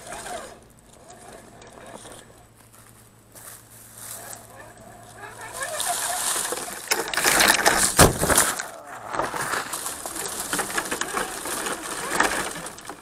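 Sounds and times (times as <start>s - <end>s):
tyres crunching over rocks and gravel: 0.0s - 13.0s.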